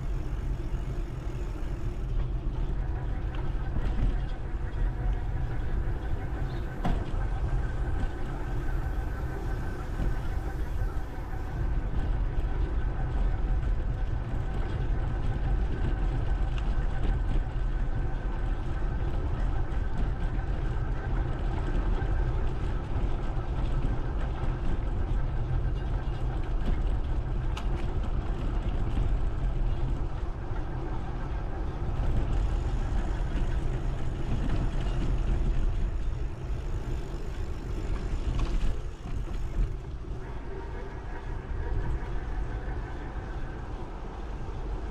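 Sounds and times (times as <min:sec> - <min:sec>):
faint whining tones: 0:00.0 - 0:44.9
road noise from moving bike: 0:00.0 - 0:44.9
wind rumble on microphone: 0:00.0 - 0:44.9.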